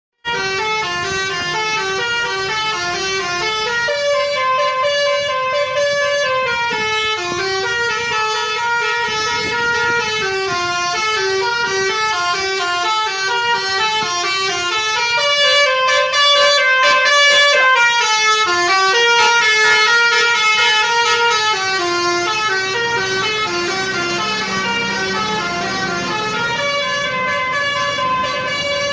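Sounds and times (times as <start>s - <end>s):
multi-tone bus horn melody: 0.2s - 28.9s.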